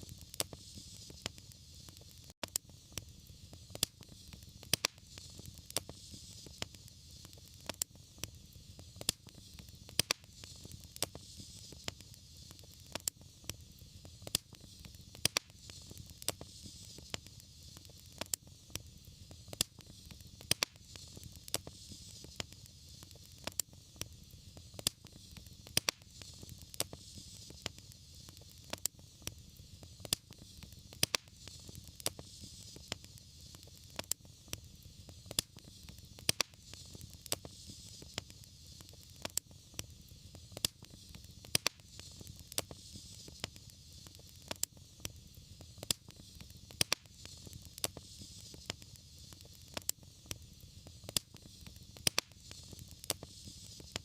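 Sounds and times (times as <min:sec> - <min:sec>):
faint hiss: 0:00.0 - 0:54.0
fire crackling and popping: 0:00.0 - 0:54.0
low fire rumble: 0:00.0 - 0:54.0.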